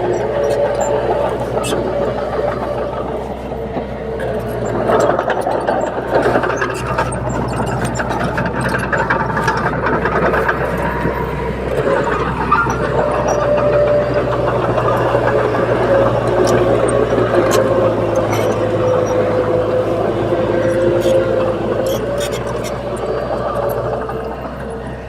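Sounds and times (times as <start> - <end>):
metallic clicks and clanks: 0.0 - 24.8
bulldozer diesel engine running: 0.0 - 25.0.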